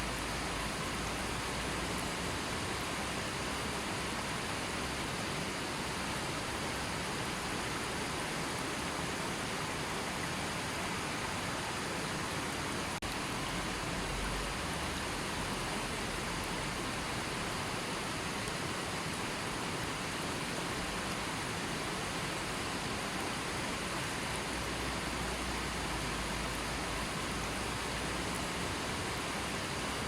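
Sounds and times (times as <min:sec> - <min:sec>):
river water flowing: 0:00.0 - 0:30.0.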